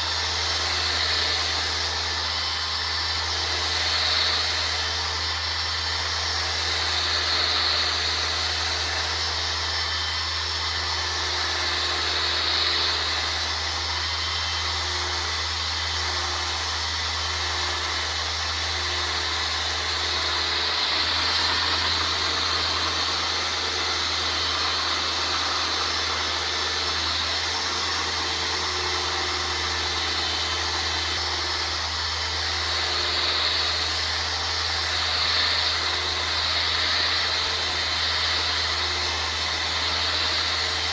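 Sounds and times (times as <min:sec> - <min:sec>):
power sander hissing: 0:00.0 - 0:40.9
steady low hum: 0:00.0 - 0:40.9.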